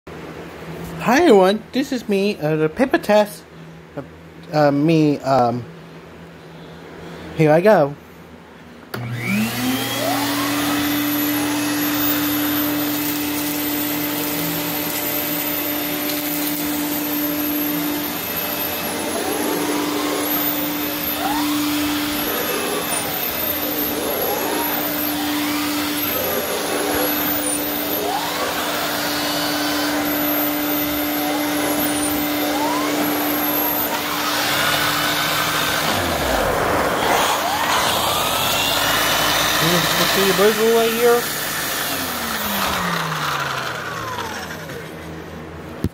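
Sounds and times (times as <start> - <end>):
vacuum cleaner motor whining: 8.9 - 45.9.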